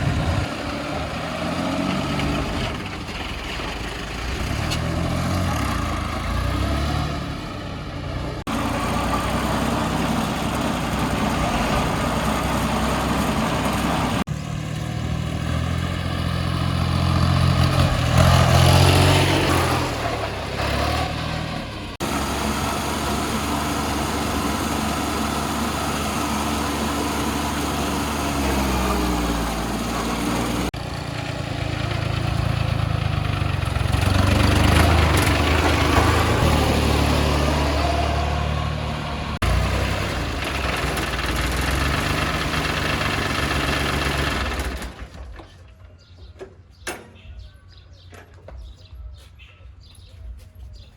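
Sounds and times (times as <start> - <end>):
vehicle engine revving: 0.0 - 45.4.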